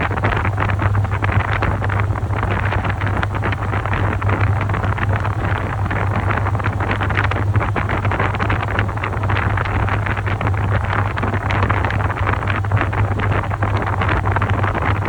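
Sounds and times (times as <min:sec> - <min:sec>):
washing machine motor hum: 0:00.0 - 0:15.0
water and laundry churning: 0:00.0 - 0:15.0.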